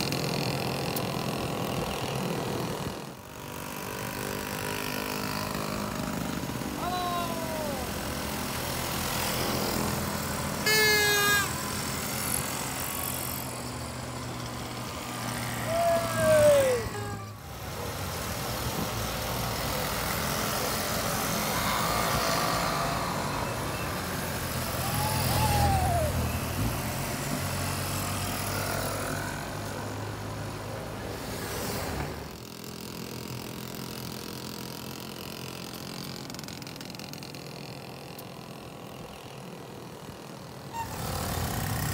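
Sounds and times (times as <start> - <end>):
two-stroke moped engines: 0.0 - 41.9.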